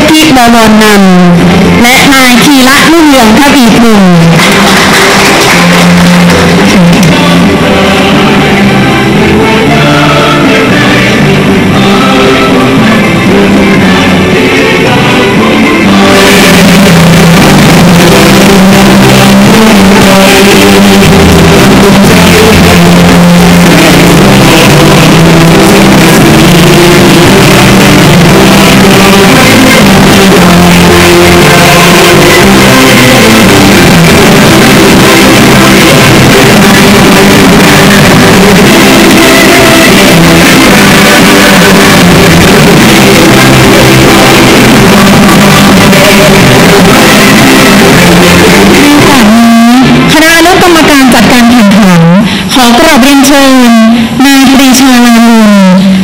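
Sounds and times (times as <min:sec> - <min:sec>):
loud music with held melody: 0:00.0 - 0:56.0.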